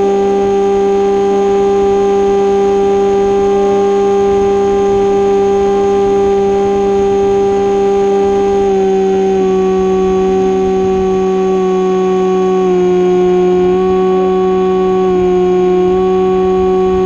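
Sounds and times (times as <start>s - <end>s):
electric motor and propeller buzzing: 0.0s - 17.0s.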